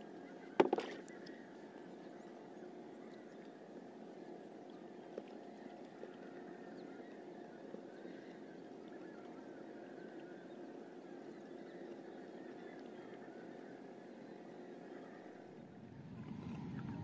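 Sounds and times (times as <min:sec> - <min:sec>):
faint steady hum: 0:00.0 - 0:17.0
water lapping around boat: 0:00.0 - 0:17.0.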